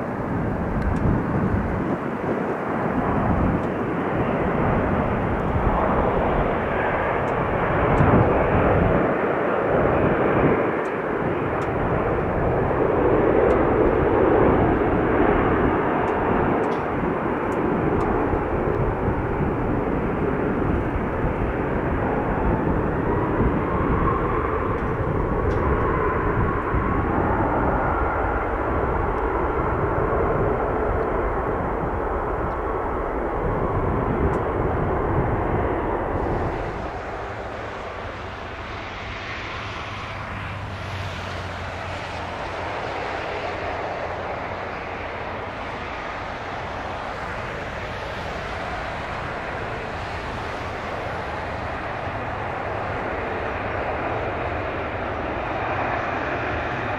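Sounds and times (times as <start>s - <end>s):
jet engines roaring: 0.0s - 56.9s.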